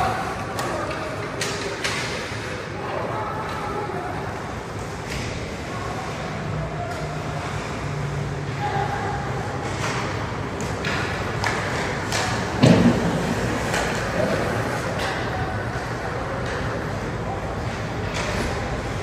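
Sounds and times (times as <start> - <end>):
hockey sticks and puck clacking: 0.0 - 19.0.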